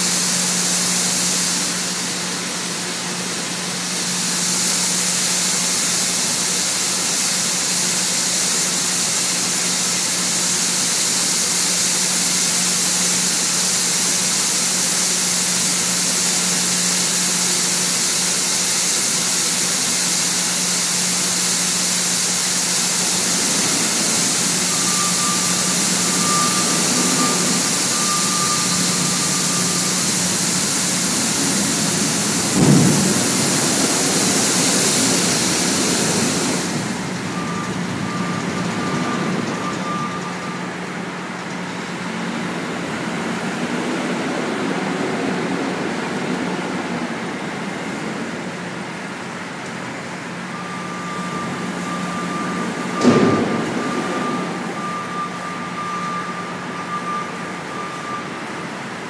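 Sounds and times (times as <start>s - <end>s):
machinery hum: 0.0s - 59.0s
thin high whine: 0.0s - 59.0s.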